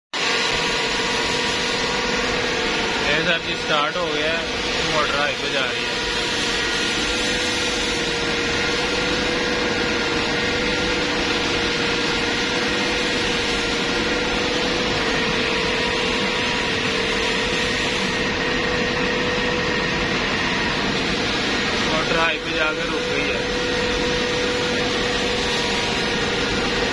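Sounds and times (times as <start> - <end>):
burner blower humming and whining: 0.1 - 26.9.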